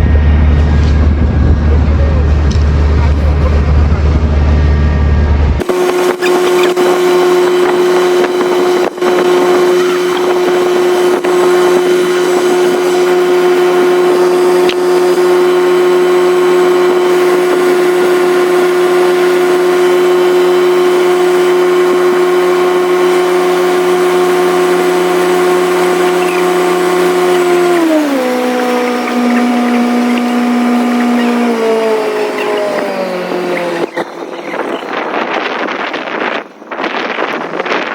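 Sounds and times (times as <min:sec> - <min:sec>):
motor whining: 0:00.0 - 0:37.9.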